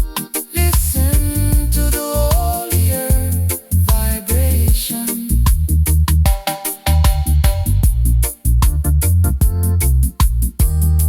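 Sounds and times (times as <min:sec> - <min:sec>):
drum kit with hi-hat: 0:00.0 - 0:11.0
keyboard chords: 0:00.0 - 0:11.0
deep bass line: 0:00.6 - 0:11.0.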